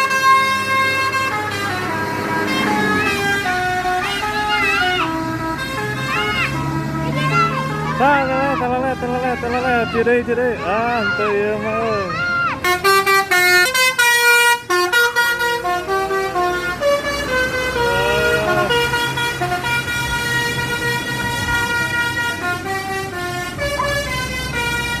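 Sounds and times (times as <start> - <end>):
bus musical horns playing notes: 0.0 - 9.9, 12.6 - 25.0
bus engine running: 0.0 - 25.0.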